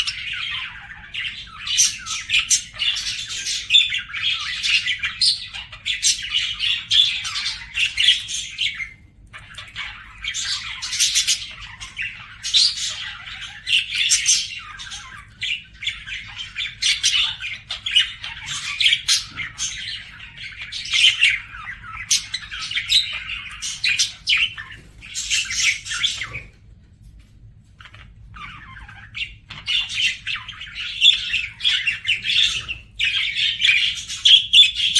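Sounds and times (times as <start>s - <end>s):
budgerigars warbling and chattering: 0.0s - 34.9s.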